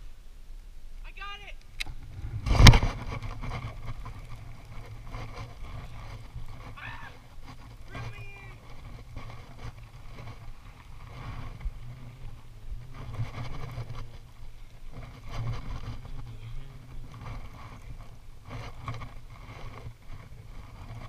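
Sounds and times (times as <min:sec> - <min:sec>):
fishing rod handling rustles: 0:01.7 - 0:21.0
wind buffeting microphone: 0:01.7 - 0:21.0.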